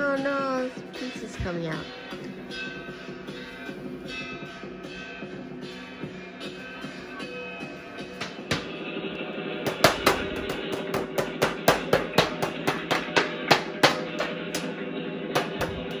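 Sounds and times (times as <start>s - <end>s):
sharp percussive beat: 0.0s - 8.9s, 9.6s - 16.0s
music with sustained tones: 0.0s - 16.0s.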